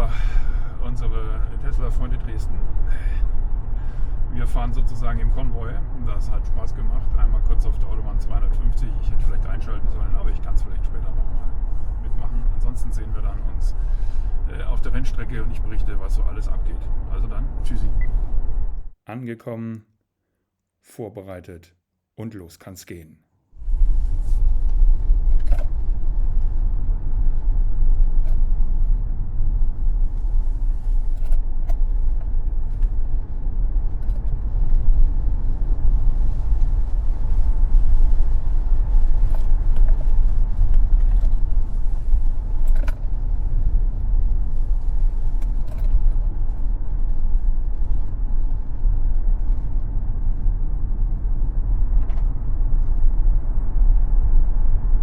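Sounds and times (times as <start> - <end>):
road and tyre rumble: 0.0 - 18.9, 23.6 - 55.0.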